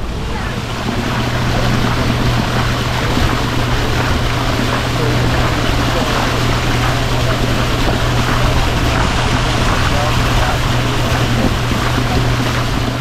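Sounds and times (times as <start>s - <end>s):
boat motor humming: 0.0s - 13.0s
water noise: 0.0s - 13.0s
wind noise: 0.0s - 13.0s.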